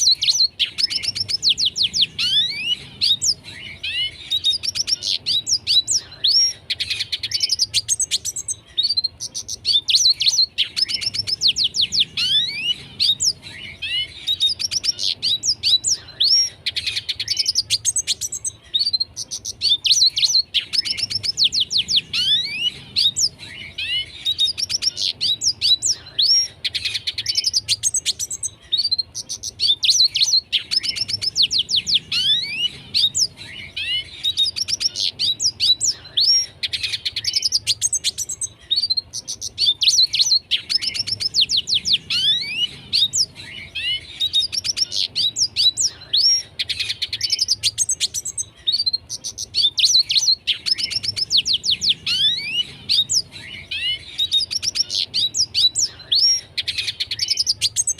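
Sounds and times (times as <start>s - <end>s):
bird twittering song: 0.0s - 57.9s.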